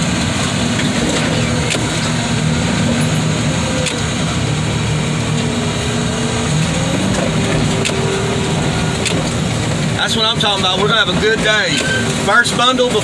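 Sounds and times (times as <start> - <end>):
thin wavering whine: 0.0 - 10.5
diesel engine rumbling: 0.0 - 13.0.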